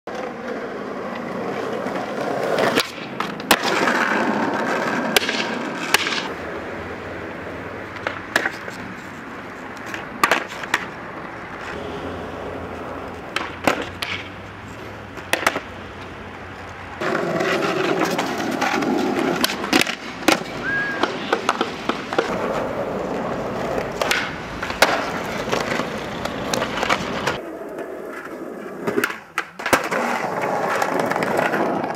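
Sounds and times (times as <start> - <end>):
skateboard cracks and clacks: 0.1 - 6.4, 7.8 - 31.9
skateboard wheels rolling on concrete: 0.1 - 31.9.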